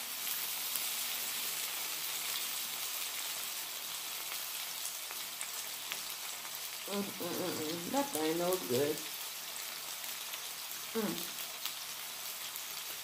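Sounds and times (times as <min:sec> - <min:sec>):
food sizzling on a hot griddle: 0:00.0 - 0:13.0.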